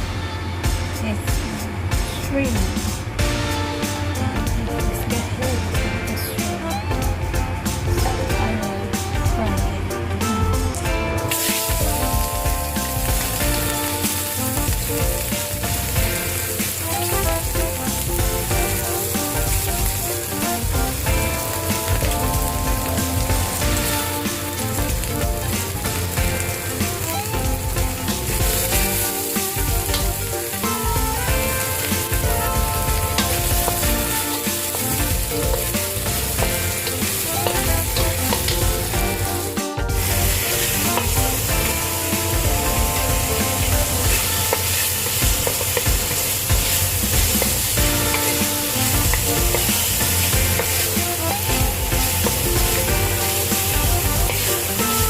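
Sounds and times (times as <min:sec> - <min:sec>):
background music: 0:00.0 - 0:55.0
shrimp sizzling in hot oil: 0:01.0 - 0:55.0.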